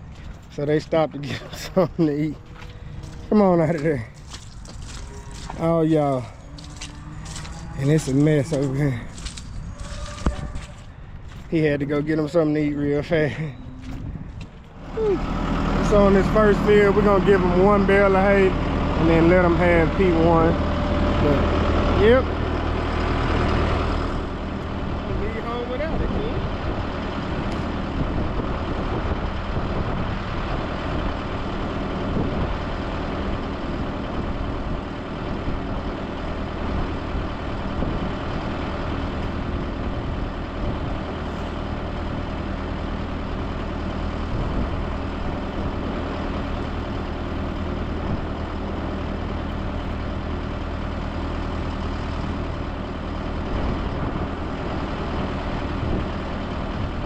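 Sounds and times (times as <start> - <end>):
heavy farm vehicle engine droning: 0.0 - 57.0.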